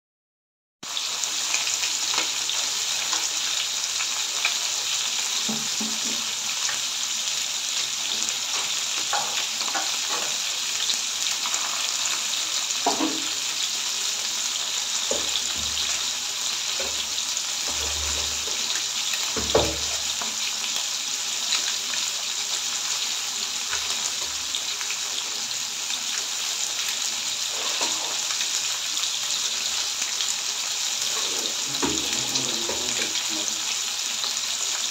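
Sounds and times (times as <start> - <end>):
fish sizzling in hot oil: 0.8 - 34.9
oil crackling and popping: 1.0 - 13.9, 15.0 - 33.4.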